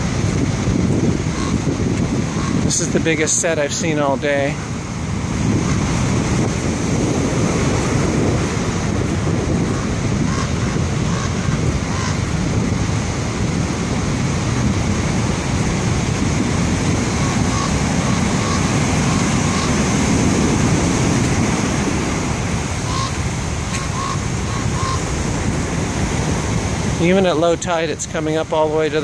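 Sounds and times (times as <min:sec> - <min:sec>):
heavy surf breaking: 0:00.0 - 0:29.0.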